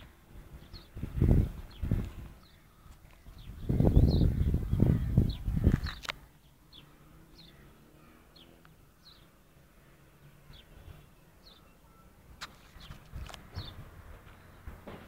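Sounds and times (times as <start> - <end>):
small bird chirping: 0.6 - 9.4, 10.4 - 13.8.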